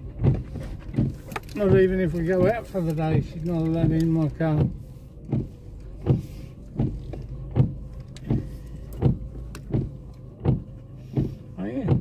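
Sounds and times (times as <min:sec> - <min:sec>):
moving car hum: 0:00.0 - 0:12.0.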